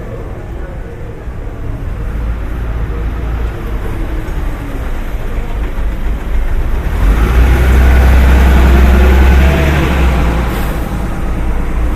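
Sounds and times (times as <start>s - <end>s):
vehicle engine rumbling: 0.0s - 11.9s.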